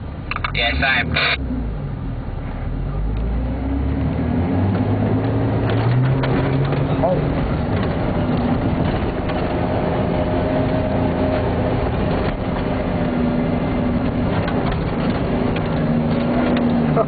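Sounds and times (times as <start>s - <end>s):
vehicle engine under heavy load: 0.0s - 17.0s.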